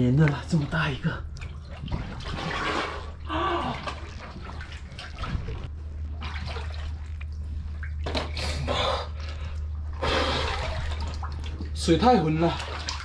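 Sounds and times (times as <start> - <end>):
steady low hum: 0.0 - 13.0
water sloshing and splashing: 0.0 - 13.0.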